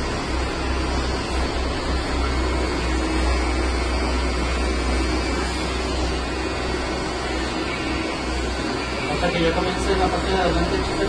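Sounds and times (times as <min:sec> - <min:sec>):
electric hair clippers humming: 0:00.0 - 0:11.0.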